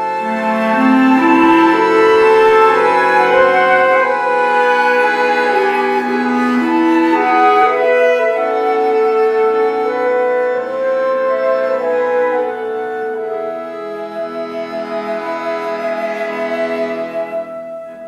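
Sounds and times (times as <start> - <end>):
accordion: 0.0 - 18.0
bass clarinet: 0.0 - 18.0
flute: 0.0 - 18.0.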